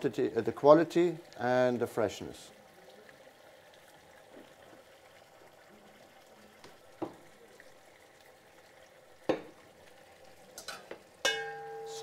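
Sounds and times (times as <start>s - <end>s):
liquid nitrogen bubbling hiss: 0.0s - 12.0s.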